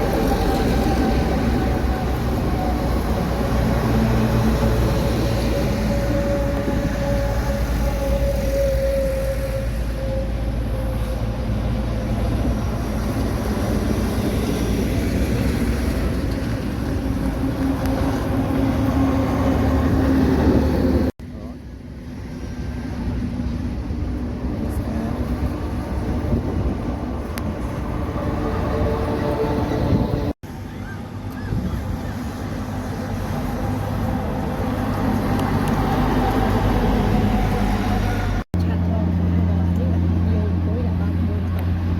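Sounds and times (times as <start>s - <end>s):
truck engines rumbling: 0.0s - 41.9s.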